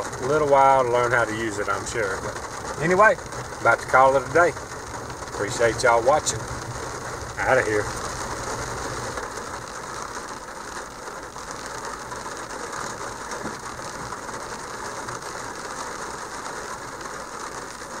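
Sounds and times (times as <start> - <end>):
road and engine noise in vehicle: 0.0 - 18.0.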